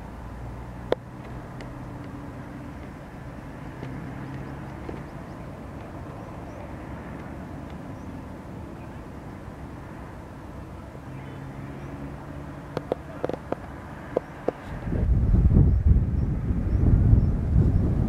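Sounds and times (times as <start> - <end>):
distant hum of trains: 0.0 - 18.0.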